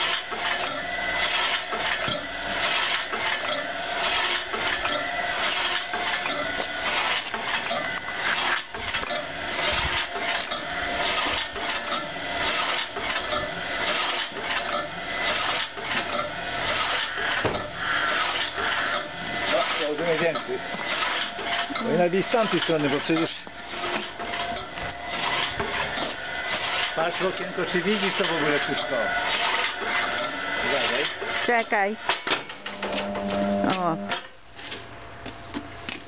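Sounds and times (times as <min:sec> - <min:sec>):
electric motor and gearbox whirring: 0:00.0 - 0:36.0.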